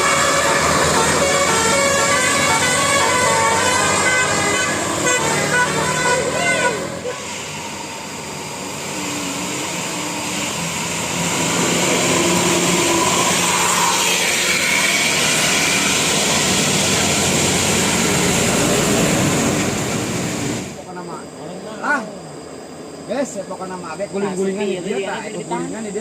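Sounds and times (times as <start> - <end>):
large vehicle passing: 0.0 - 20.9
heavy road traffic rushing: 0.0 - 21.4.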